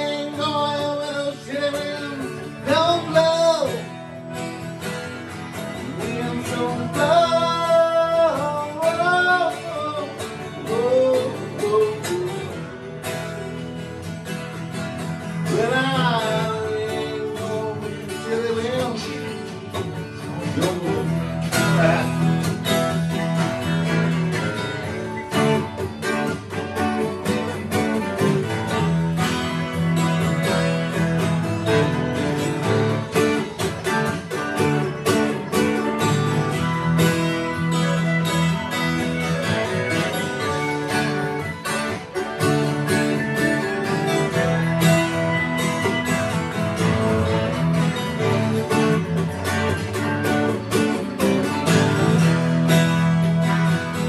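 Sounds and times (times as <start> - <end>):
acoustic guitar strumming: 0.0 - 54.0
bending guitar lead line: 0.0 - 54.0.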